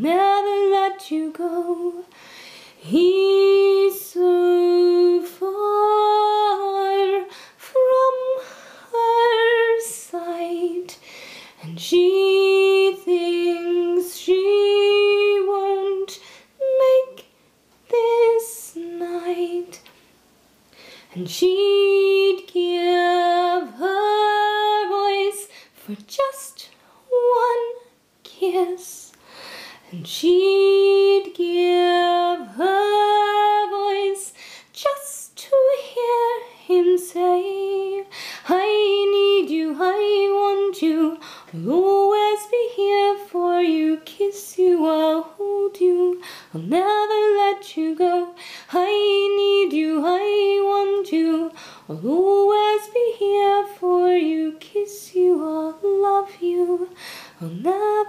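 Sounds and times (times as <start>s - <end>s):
woman singing unaccompanied: 0.0s - 19.9s, 21.0s - 29.2s, 29.8s - 58.0s.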